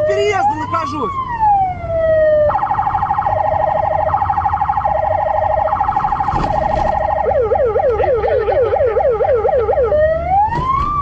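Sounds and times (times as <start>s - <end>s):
police siren wailing and yelping: 0.0s - 11.0s
low car engine rumble: 1.2s - 11.0s.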